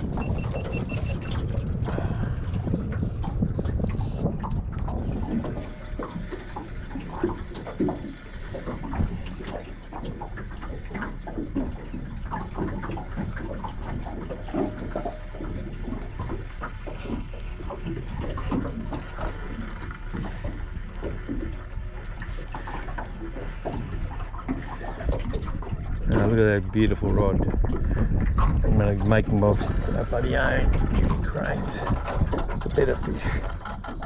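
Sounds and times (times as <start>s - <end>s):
water slapping against boat hull: 0.0s - 34.0s.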